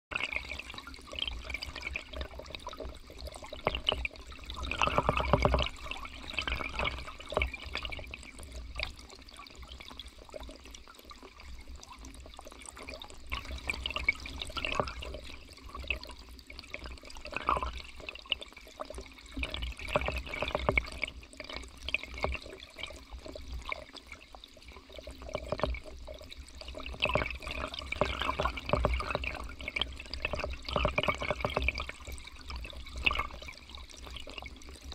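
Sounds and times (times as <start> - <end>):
small crackles: 0.1 - 34.9
underwater river current bubbling: 0.1 - 34.9.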